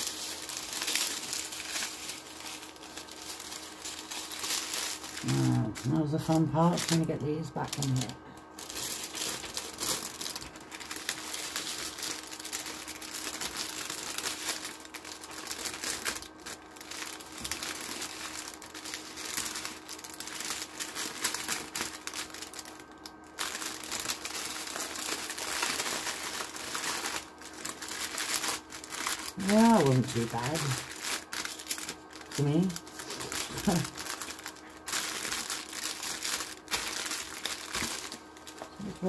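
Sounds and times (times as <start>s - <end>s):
plastic packaging crinkling: 0.0s - 39.0s.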